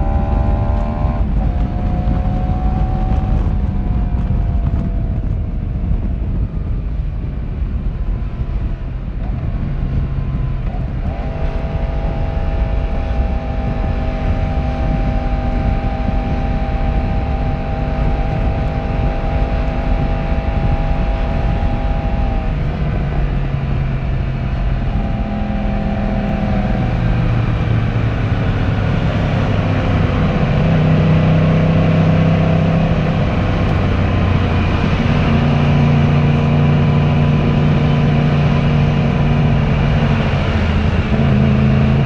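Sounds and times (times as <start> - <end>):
motorcycle engine revving: 0.0 - 5.4, 8.0 - 42.0
wind and road rumble: 0.0 - 42.0.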